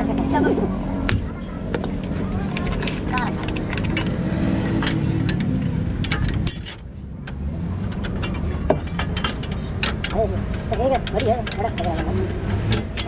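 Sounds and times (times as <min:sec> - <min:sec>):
low engine-like rumble: 0:00.0 - 0:13.0
sharp metallic clicks and knocks: 0:01.1 - 0:13.0.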